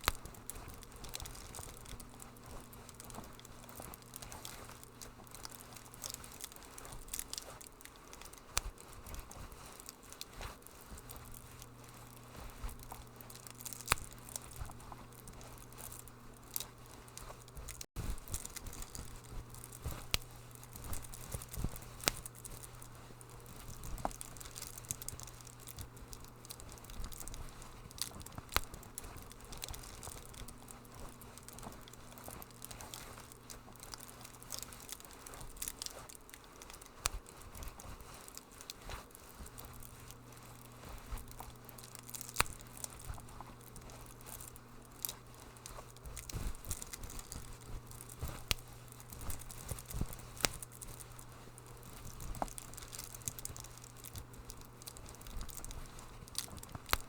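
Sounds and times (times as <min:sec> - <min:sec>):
low steady hum: 0:00.0 - 0:57.0
wood fire crackling: 0:00.0 - 0:57.0.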